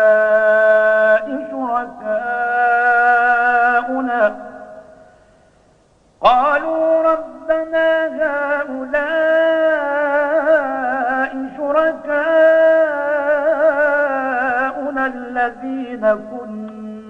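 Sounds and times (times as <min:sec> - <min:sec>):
man chanting melodically: 0:00.0 - 0:05.1, 0:06.2 - 0:17.0.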